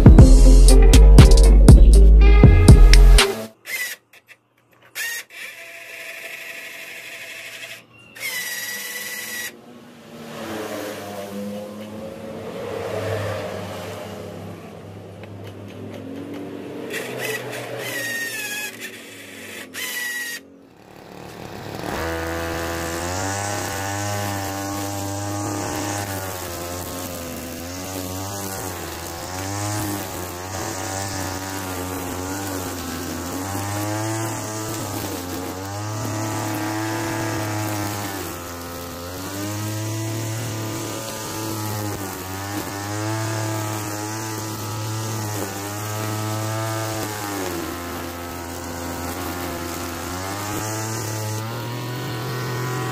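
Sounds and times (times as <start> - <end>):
small two-stroke engine running: 3.0 - 52.9.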